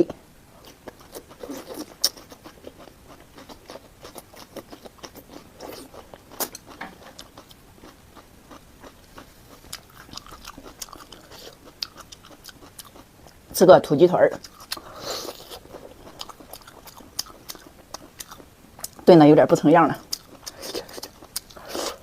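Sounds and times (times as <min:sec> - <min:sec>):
person chewing food: 0:00.6 - 0:13.5, 0:14.4 - 0:19.0, 0:20.0 - 0:22.0.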